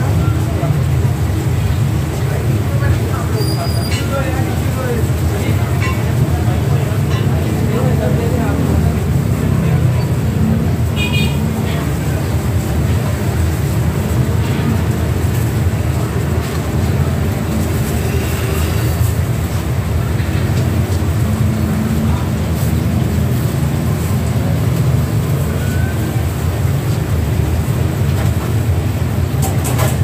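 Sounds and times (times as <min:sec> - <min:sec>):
machine and traffic rumble: 0:00.0 - 0:30.0.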